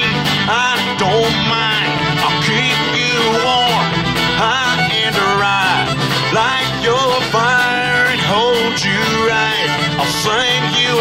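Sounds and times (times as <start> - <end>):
acoustic string band playing: 0.0 - 11.0.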